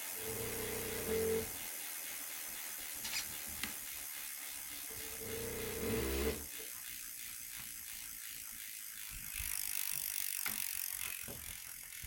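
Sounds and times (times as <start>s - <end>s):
hub motor wheel ratchet clicking: 0.0s - 12.0s.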